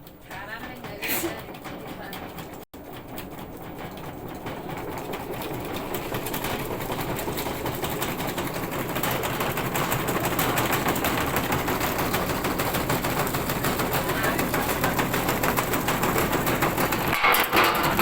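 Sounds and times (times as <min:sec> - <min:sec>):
washing machine knocking and rattling: 0:00.0 - 0:18.0.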